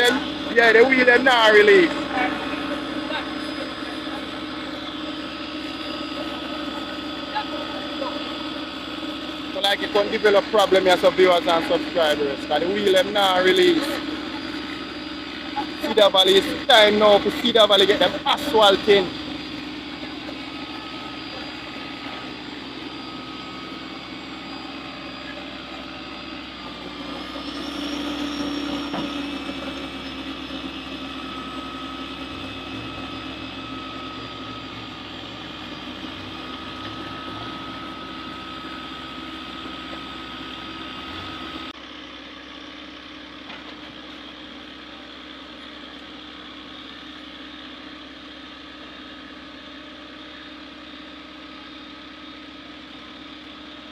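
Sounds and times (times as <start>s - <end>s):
heavy vehicle engine running: 0.0s - 53.9s.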